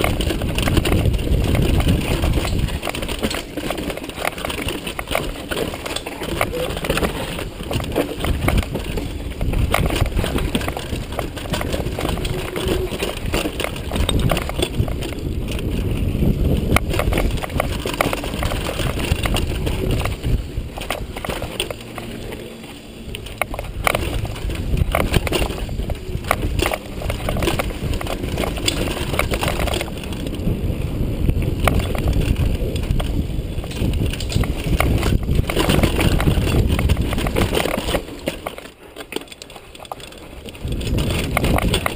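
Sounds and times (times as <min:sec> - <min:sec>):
bike rattling and knocking: 0:00.0 - 0:41.9
tyres rolling over dirt and rocks: 0:00.0 - 0:41.9
wind rumbling on microphone: 0:00.0 - 0:41.9.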